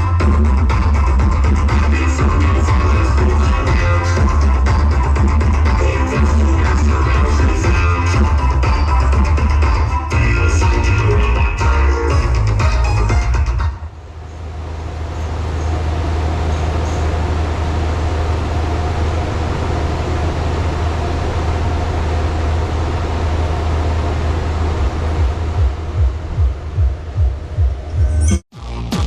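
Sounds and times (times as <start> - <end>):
deep sub-bass drone: 0.0 - 29.0
pulsing bass beats: 0.0 - 29.0.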